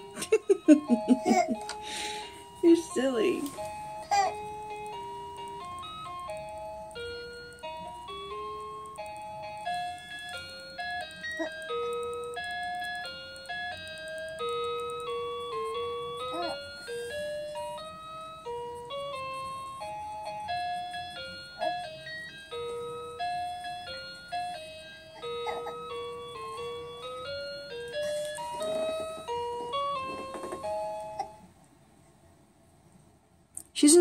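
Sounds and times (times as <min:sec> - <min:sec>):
electronic baby toy tune: 0:00.0 - 0:31.5.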